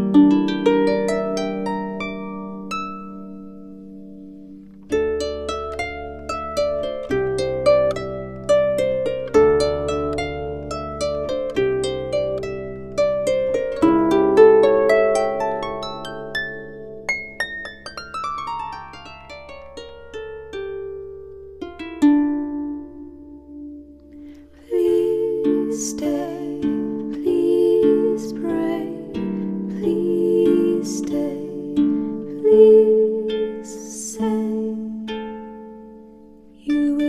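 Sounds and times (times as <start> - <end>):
harp-like plucked-string music: 0.0 - 37.0.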